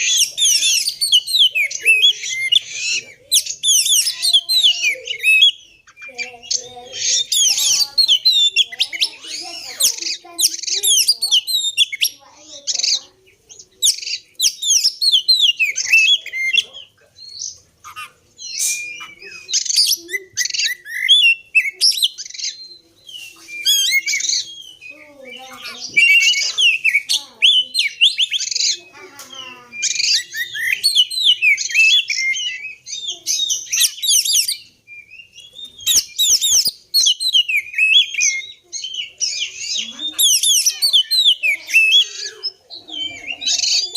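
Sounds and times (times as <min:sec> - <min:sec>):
songbird singing whistles and trills: 0:00.0 - 0:43.9.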